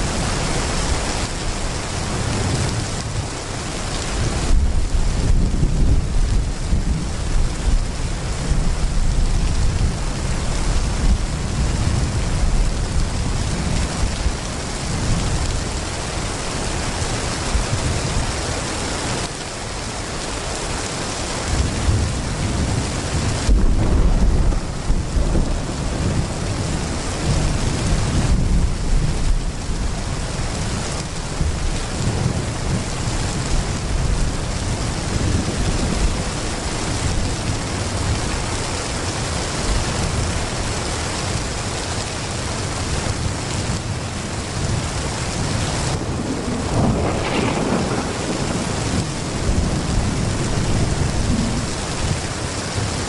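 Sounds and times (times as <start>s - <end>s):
thunder rumbling: 0.0s - 18.6s, 21.5s - 41.5s, 42.8s - 53.0s
heavy rain pouring: 0.0s - 53.0s.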